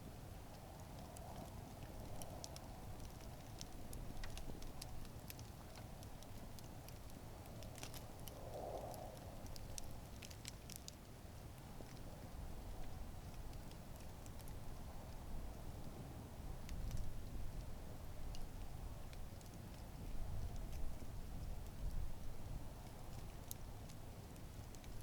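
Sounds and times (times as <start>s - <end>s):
low rumble of flame: 0.0s - 25.0s
campfire crackling and popping: 0.5s - 25.0s.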